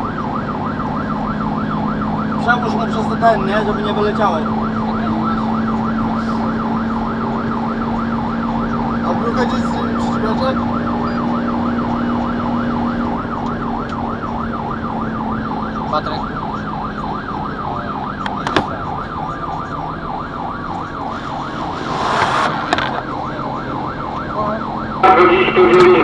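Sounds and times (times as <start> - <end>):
fire engine siren yelping: 0.0 - 26.0
truck engine humming: 0.0 - 26.0.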